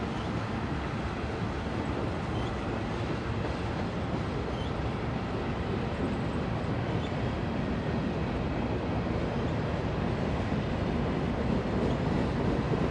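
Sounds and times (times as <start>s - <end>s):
freight train rumbling on track: 0.0s - 12.9s.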